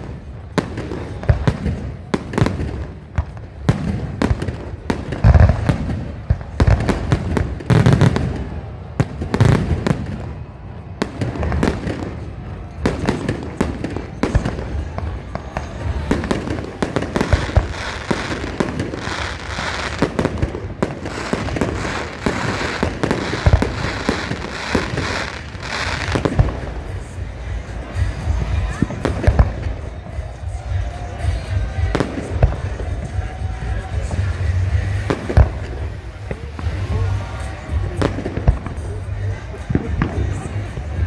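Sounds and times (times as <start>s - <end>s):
fireworks booming and cracking: 0.0s - 41.0s.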